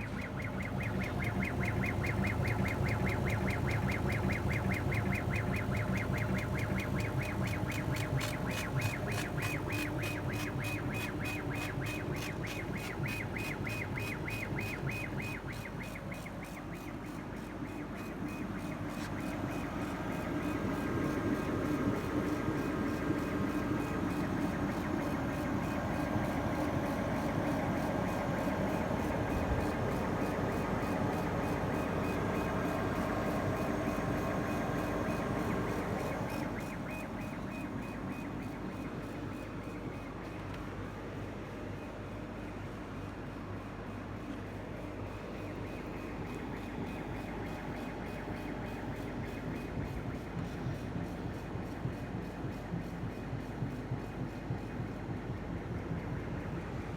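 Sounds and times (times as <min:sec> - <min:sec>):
laser cutter pulsing: 0:00.0 - 0:40.5, 0:42.4 - 0:56.9
motor hum with thin whine: 0:00.0 - 0:56.9.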